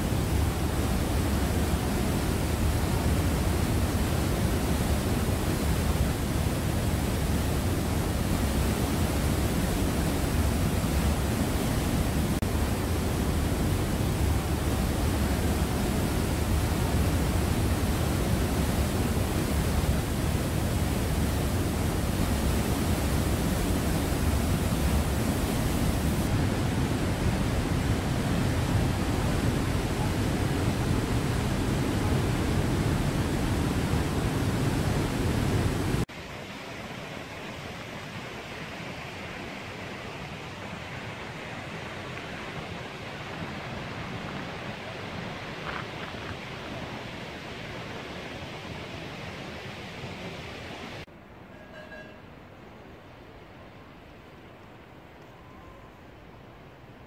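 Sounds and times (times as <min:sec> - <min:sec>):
waterfall rushing: 0:00.0 - 0:51.1.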